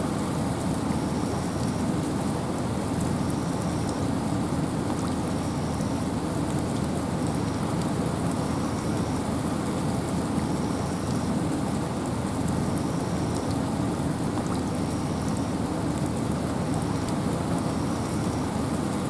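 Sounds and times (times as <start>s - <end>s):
rain: 0.0s - 19.0s
light drip ticks: 0.2s - 19.0s.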